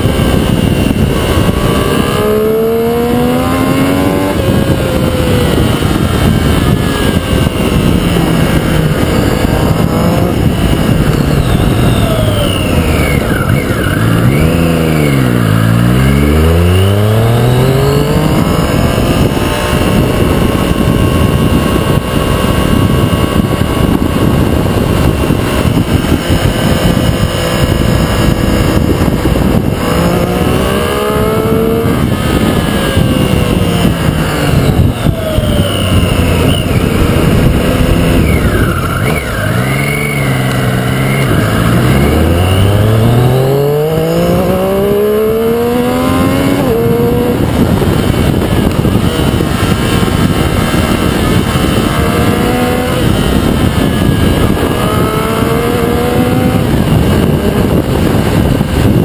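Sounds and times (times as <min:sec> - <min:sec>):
heavy wind noise: 0:00.0 - 0:59.0
motorcycle engine revving: 0:00.0 - 0:59.0
road noise: 0:00.0 - 0:59.0.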